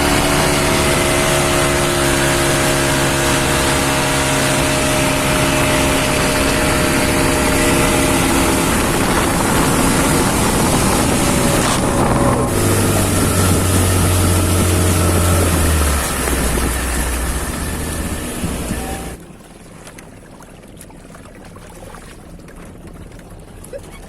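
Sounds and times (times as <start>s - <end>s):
outboard motor running: 0.0s - 24.0s
water rushing: 0.0s - 24.0s
wind: 0.0s - 24.0s.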